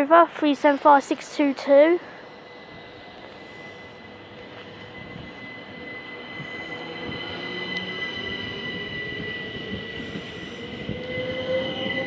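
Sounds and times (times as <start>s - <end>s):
train running rumble: 1.2s - 12.0s
train wheels squealing: 1.6s - 12.0s.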